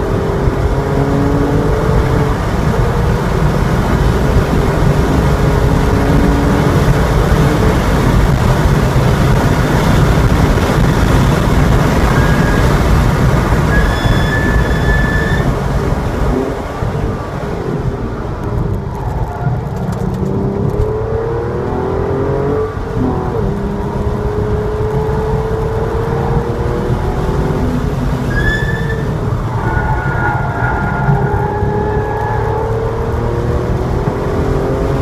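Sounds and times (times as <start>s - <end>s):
car engine at speed: 0.0s - 35.0s.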